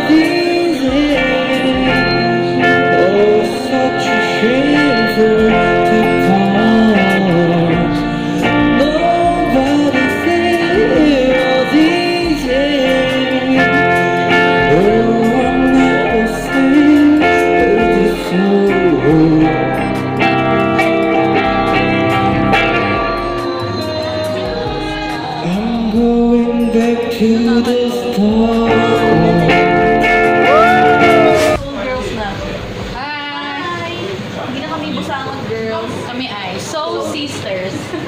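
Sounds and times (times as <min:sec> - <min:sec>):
man singing into microphone: 0:00.0 - 0:21.9, 0:22.5 - 0:31.6
electric guitar playing: 0:00.0 - 0:32.5.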